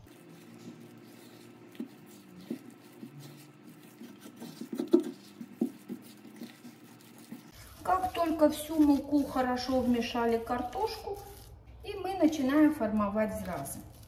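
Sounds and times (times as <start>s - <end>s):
spatula squishing thick dough: 0.0s - 14.0s.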